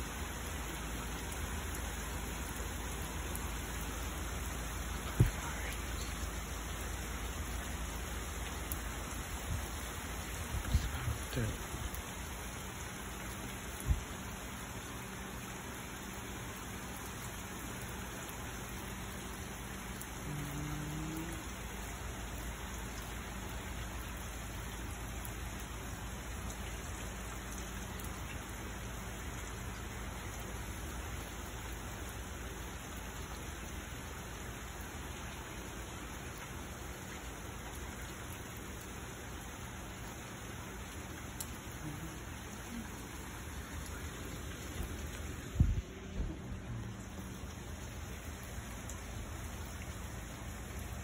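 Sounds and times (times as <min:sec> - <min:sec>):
rain falling on concrete: 0:00.0 - 0:51.0.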